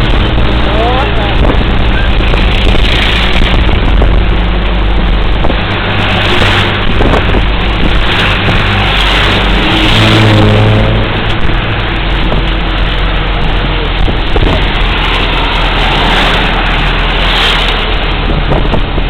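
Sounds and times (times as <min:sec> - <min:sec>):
road noise: 0:00.0 - 0:19.0
truck engine hum: 0:00.0 - 0:19.0
wind noise: 0:00.0 - 0:19.0.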